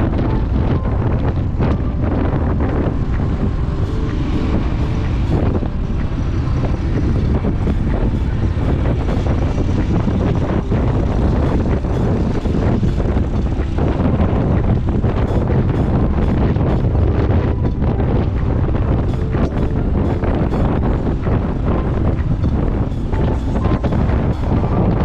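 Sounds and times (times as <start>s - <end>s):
vehicle engine running: 0.0s - 25.0s
wind rushing over microphone: 0.0s - 25.0s.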